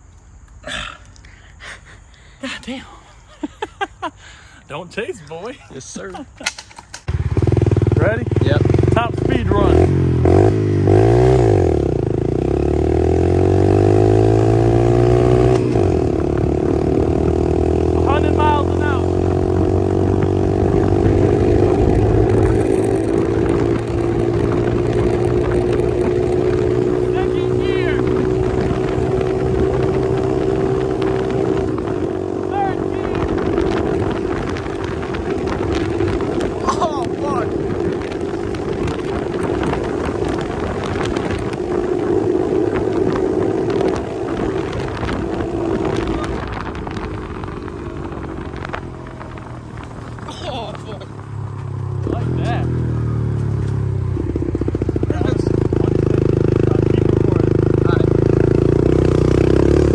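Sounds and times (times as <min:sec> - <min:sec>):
pit bike engine under throttle: 0:03.4 - 0:59.9
wind noise on microphone: 0:06.4 - 0:59.9.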